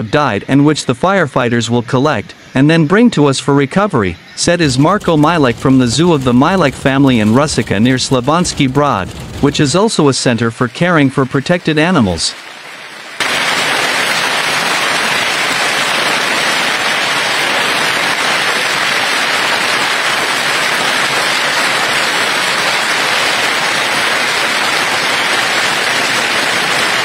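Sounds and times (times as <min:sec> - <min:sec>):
hail and heavy rain pelting: 0:04.4 - 0:27.0.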